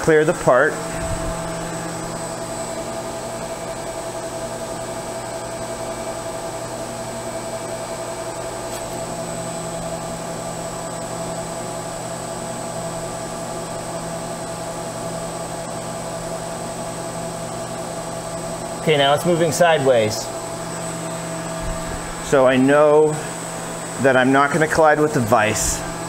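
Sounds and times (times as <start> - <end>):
low machine hum: 0.0 - 26.0
milling machine spindle whine: 0.0 - 26.0.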